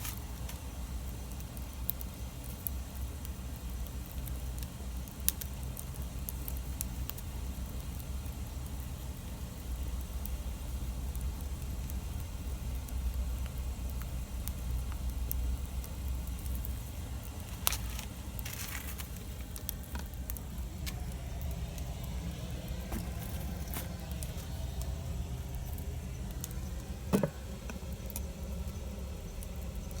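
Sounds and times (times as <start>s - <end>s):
campfire crackling and popping: 0.0s - 30.0s
steady low rumble: 5.6s - 30.0s.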